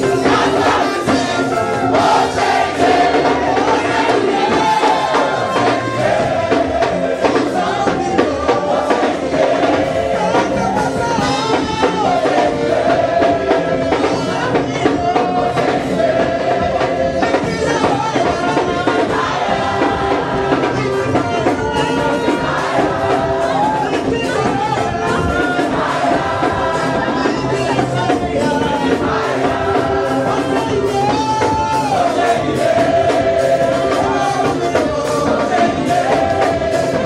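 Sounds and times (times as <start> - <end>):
congregation singing: 0.0 - 37.0
gospel band with steady beat: 0.0 - 37.0.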